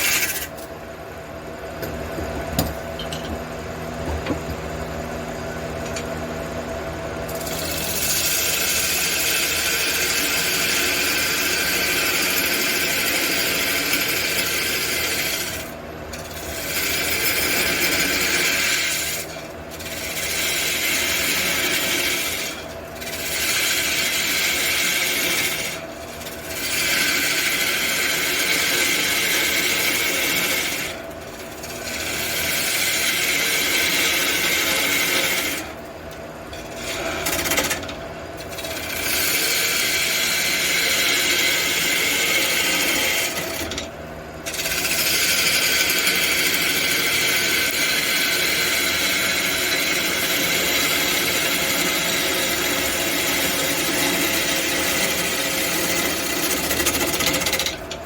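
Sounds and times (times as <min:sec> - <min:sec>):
tool hissing on spinning wood: 0:00.0 - 0:00.6, 0:07.3 - 0:35.8, 0:38.5 - 0:43.6, 0:44.4 - 0:57.7
wood lathe motor humming: 0:00.0 - 0:00.7, 0:07.2 - 0:58.0.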